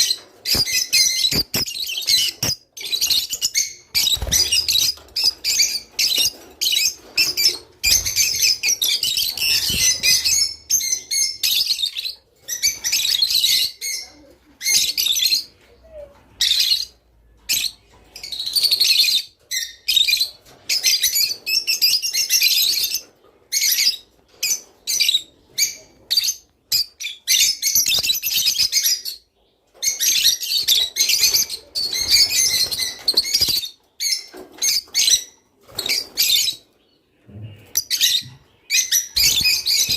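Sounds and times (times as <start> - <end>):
lovebirds chirping and twittering: 0.0 - 39.9.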